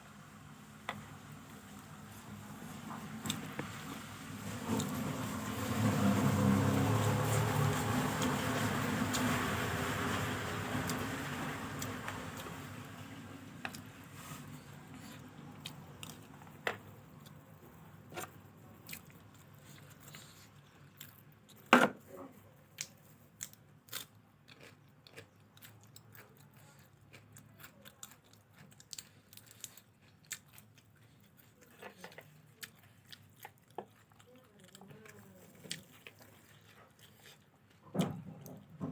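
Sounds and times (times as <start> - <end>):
person chewing food: 5.9 - 38.8.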